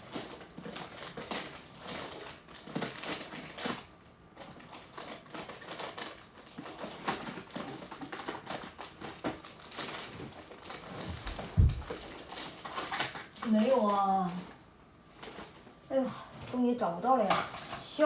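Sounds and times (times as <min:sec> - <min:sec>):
packaging crinkling: 0:00.0 - 0:14.6.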